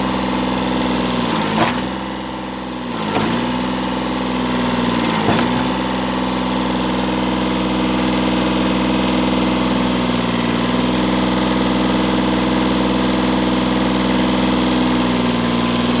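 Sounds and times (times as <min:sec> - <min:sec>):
tractor engine idling: 0:00.0 - 0:15.3.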